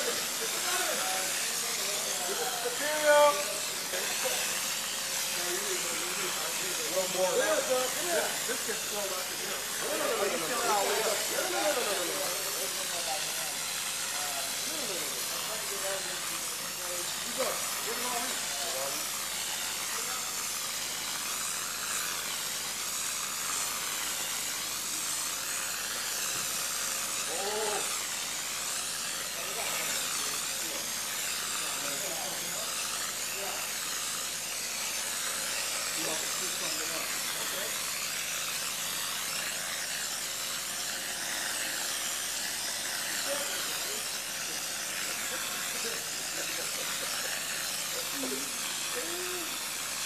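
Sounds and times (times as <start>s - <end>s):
concrete sprayer air hiss: 0.0s - 50.0s.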